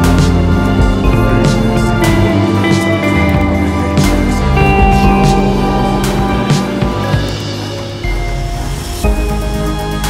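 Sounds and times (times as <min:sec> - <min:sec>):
sustained background music notes: 0:00.0 - 0:10.0.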